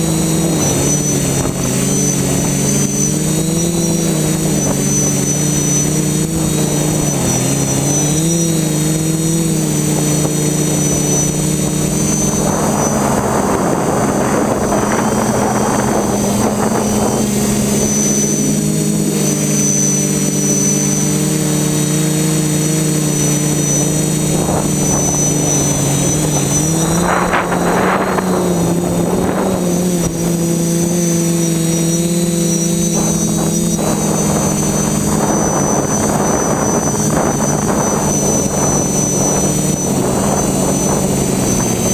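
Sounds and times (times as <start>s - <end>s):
rushing air noise: 0.0s - 20.4s, 21.4s - 41.9s
drone propellers buzzing: 0.0s - 41.9s.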